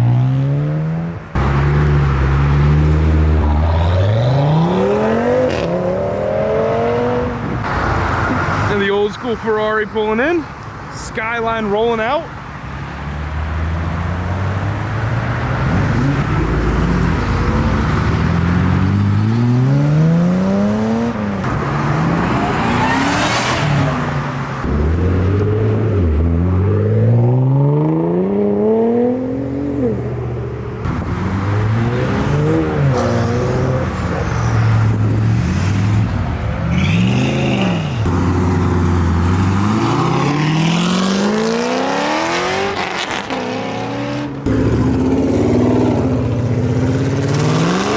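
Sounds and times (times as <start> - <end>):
car engines revving: 0.0 - 47.9.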